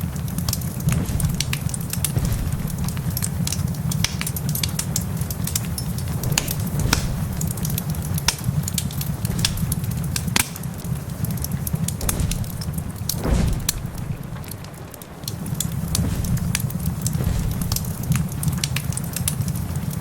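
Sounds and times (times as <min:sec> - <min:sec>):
heavy rain: 0:00.0 - 0:20.0
wood fire crackling and popping: 0:00.0 - 0:20.0
low rumble: 0:00.7 - 0:04.0, 0:05.7 - 0:18.7.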